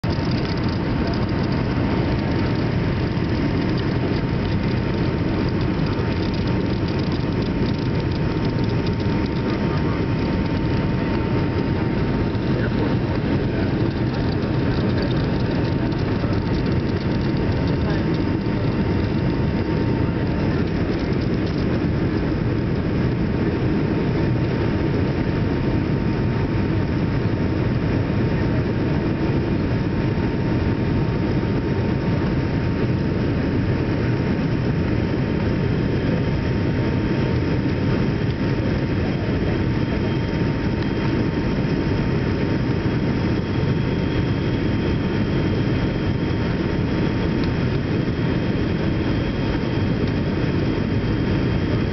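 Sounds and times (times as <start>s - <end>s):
faint even whine: 0.0s - 51.9s.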